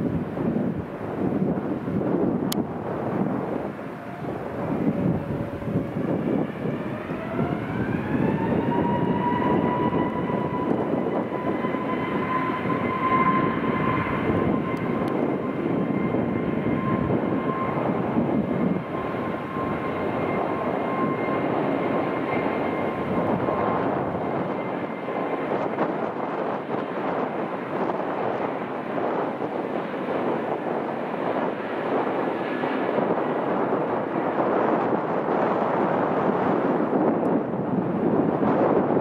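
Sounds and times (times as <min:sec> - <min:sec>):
jet engine roar: 0:00.0 - 0:39.0
jet engine whine: 0:00.0 - 0:39.0.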